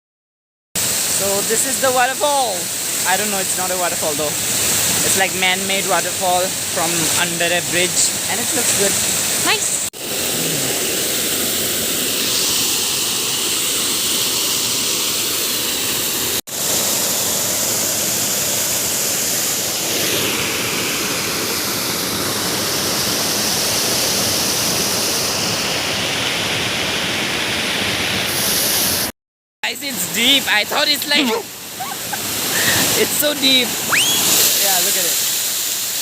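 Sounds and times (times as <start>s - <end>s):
waterfall roaring: 0.8s - 28.3s, 29.7s - 35.7s.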